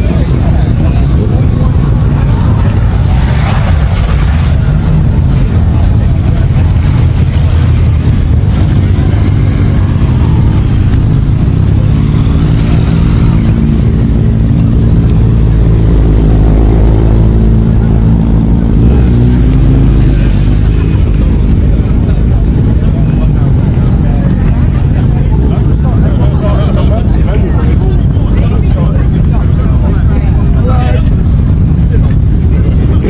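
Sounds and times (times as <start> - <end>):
motorcycle engines rumbling and revving: 0.0 - 33.0.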